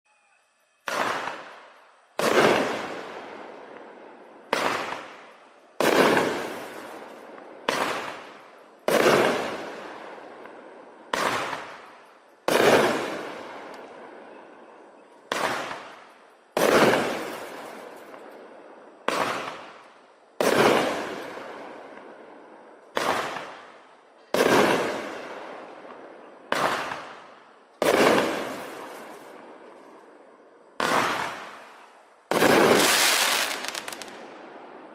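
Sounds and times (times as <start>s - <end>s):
firework launch report: 0.1s - 34.9s.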